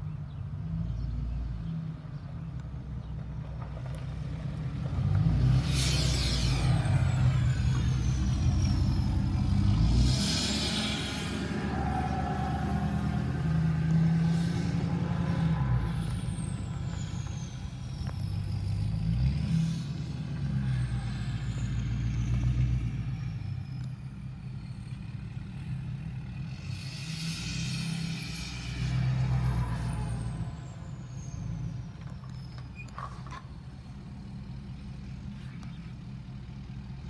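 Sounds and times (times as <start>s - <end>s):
truck engine revving: 3.8s - 37.0s.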